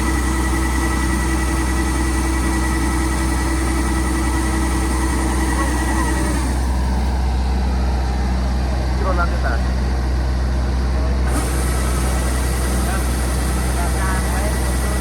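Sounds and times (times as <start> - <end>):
engine running: 0.0 - 15.0
steady whine: 0.0 - 15.0.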